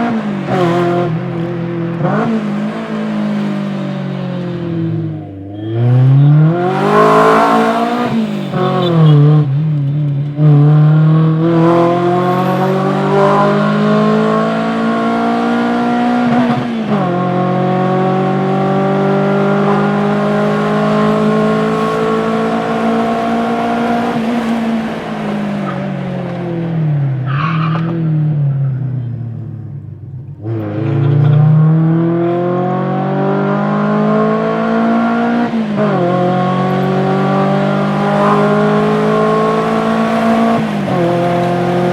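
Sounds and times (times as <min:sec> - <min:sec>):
car engine revving through gears: 0:00.0 - 0:41.9.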